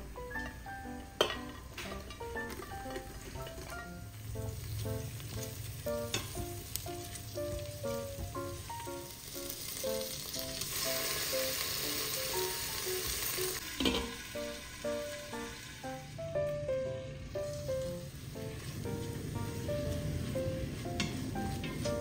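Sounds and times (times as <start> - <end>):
light music with plucked notes: 0.0 - 22.0
vegetables sizzling in oil: 0.1 - 22.0.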